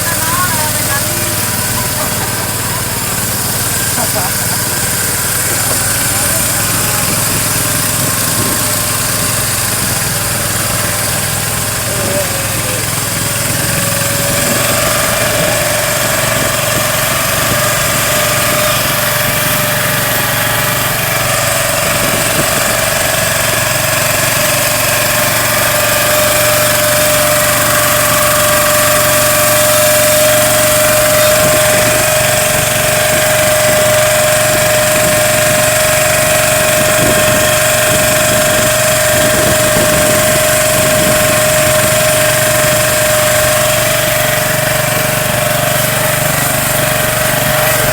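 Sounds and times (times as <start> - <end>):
small boat engine running: 0.0 - 47.9.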